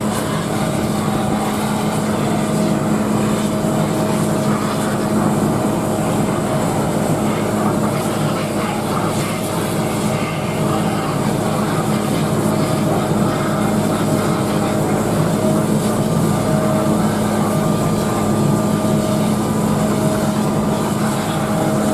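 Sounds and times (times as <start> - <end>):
engine drone: 0.0 - 21.9.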